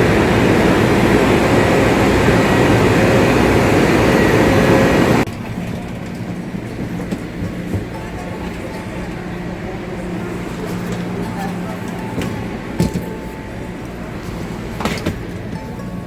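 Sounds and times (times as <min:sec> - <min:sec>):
electric train humming: 0:00.0 - 0:16.0
faint steady tones: 0:00.0 - 0:16.0.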